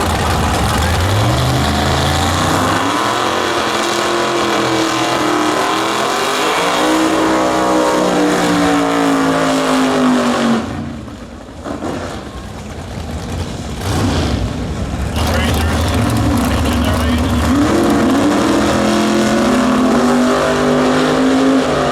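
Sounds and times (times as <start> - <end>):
car engine at full throttle: 0.0 - 21.9.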